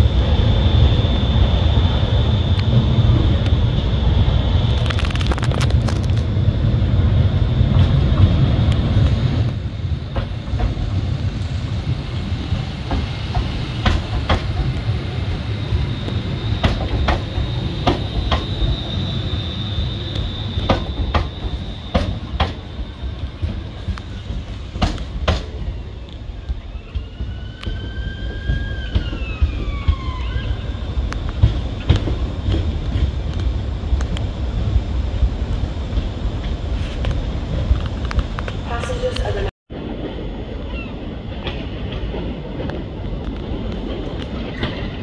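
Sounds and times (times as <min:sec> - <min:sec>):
electric train rumble: 0:00.0 - 0:45.0
train wheels clicking over track: 0:07.6 - 0:34.4, 0:35.4 - 0:45.0.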